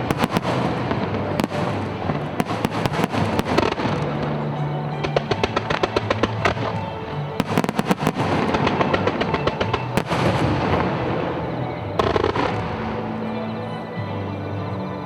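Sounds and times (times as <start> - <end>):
fireworks bursting and crackling: 0.0 - 13.5
background music: 0.0 - 15.0.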